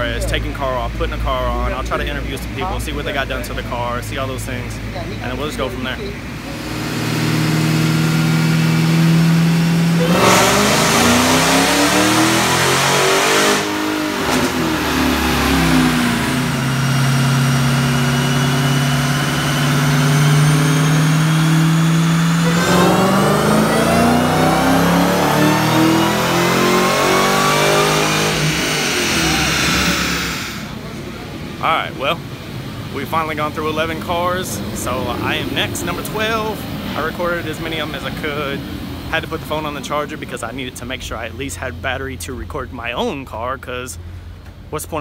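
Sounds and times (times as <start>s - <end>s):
car engine revving on dynamometer: 0.0s - 41.8s
high whine: 0.0s - 45.0s.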